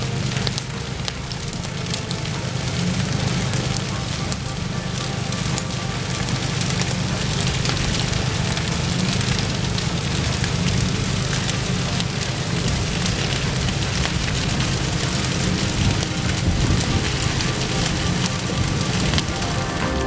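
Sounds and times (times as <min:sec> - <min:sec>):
grass fire crackling and popping: 0:00.0 - 0:20.0
low fire rumble: 0:00.0 - 0:20.0.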